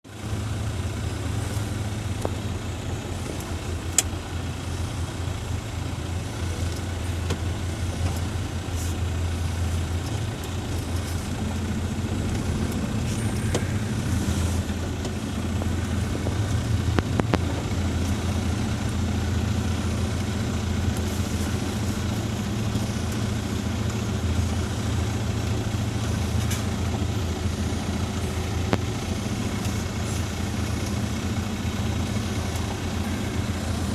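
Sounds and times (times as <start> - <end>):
heavy machine engine droning: 0.0 - 33.9.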